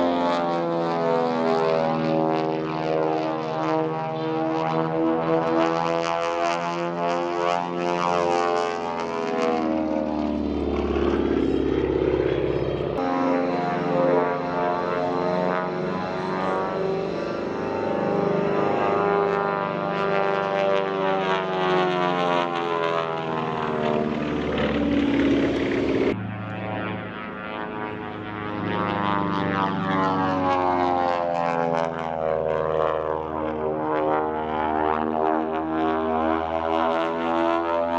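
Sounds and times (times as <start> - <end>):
propeller airplane engine droning: 0.0 - 37.9.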